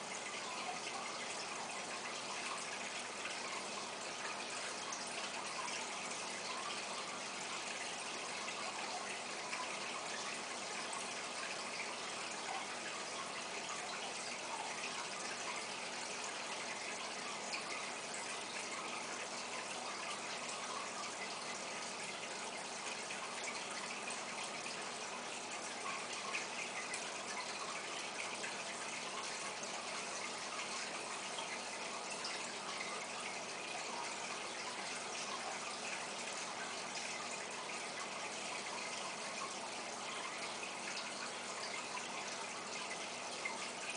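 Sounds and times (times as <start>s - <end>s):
aquarium water splashing and bubbling: 0.0s - 43.9s.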